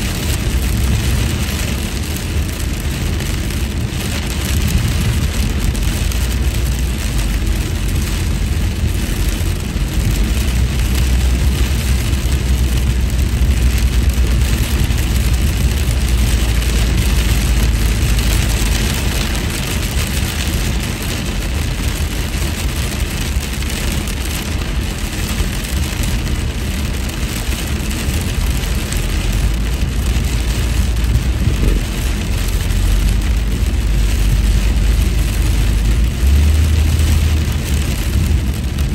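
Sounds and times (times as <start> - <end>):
car road rumble: 0.0 - 38.9
rain on windshield: 0.0 - 38.9.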